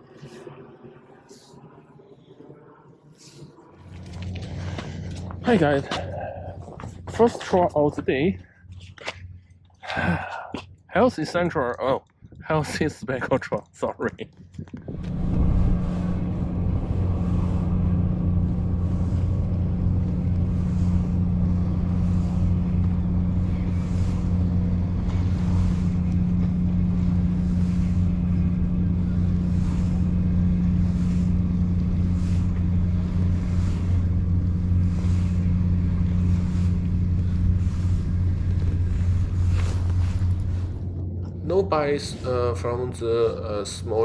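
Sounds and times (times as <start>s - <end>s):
low engine drone: 0.0s - 44.0s.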